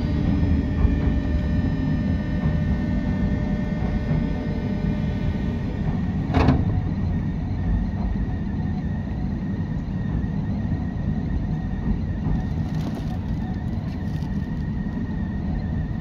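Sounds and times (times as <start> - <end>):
train wheels rumbling on rails: 0.0 - 8.2, 10.1 - 16.0.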